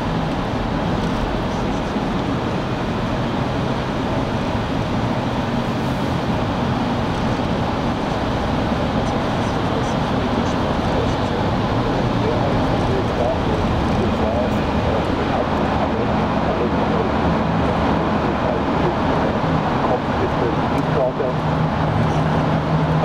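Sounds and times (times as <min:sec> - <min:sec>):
car road noise in tunnel: 0:00.0 - 0:23.0.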